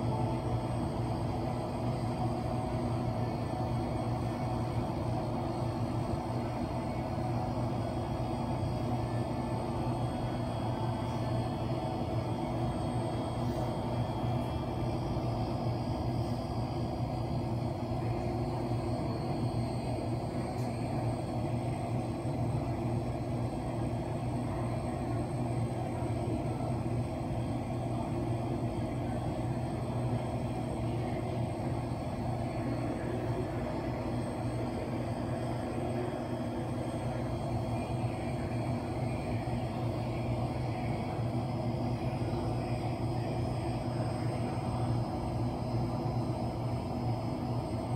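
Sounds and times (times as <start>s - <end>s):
faint high whine: 0.0s - 47.9s
low mechanical hum: 0.0s - 47.9s.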